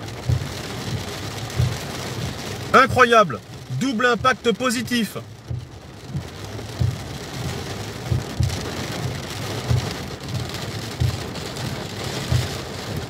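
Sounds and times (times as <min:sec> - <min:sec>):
heavy rain on windscreen: 0:00.0 - 0:13.0
windscreen wipers sweeping: 0:00.0 - 0:13.0.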